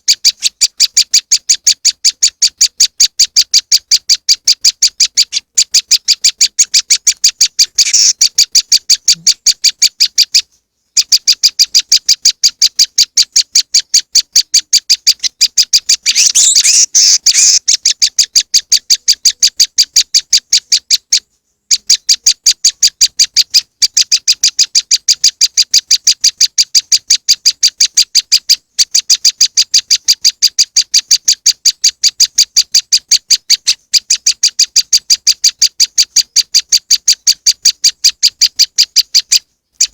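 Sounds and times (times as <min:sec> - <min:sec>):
bird calling high chips: 0:00.0 - 0:39.9.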